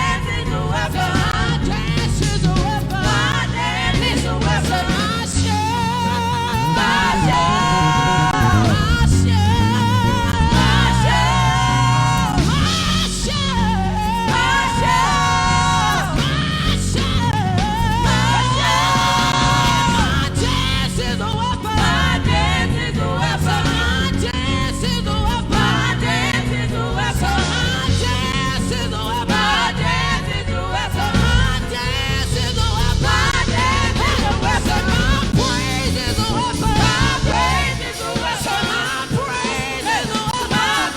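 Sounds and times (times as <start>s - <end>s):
gospel worship band playing: 0.0s - 40.9s
voices singing: 0.0s - 40.9s.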